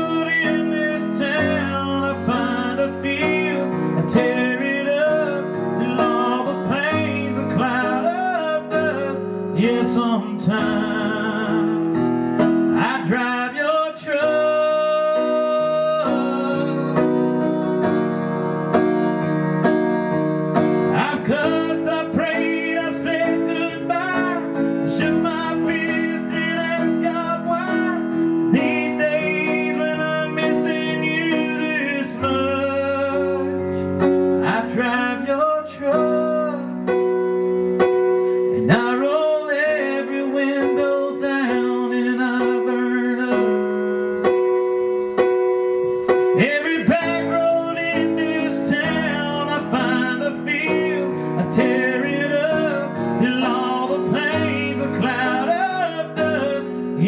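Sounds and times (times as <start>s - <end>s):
man singing: 0.0s - 18.1s, 20.5s - 44.2s, 46.1s - 57.0s
piano chords: 0.0s - 57.0s.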